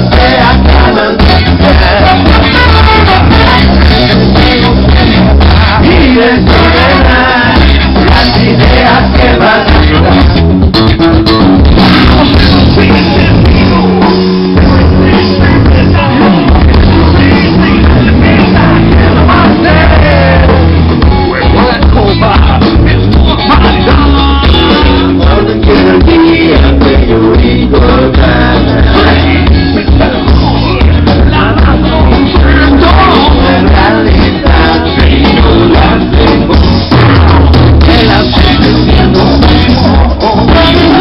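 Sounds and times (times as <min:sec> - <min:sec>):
person singing: 0:00.0 - 0:10.5, 0:11.6 - 0:41.0
bass guitar line: 0:00.0 - 0:41.0
drum kit: 0:00.0 - 0:41.0
electric guitar: 0:00.0 - 0:41.0.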